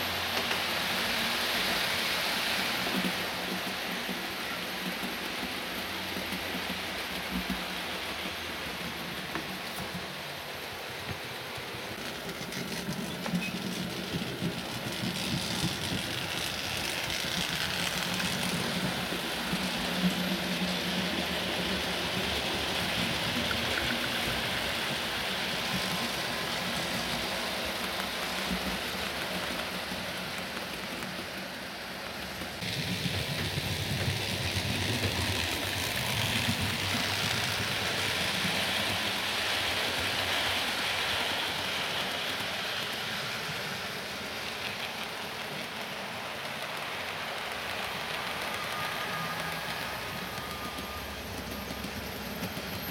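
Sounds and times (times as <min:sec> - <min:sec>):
model train wheels rolling on rails: 0:00.0 - 0:52.9.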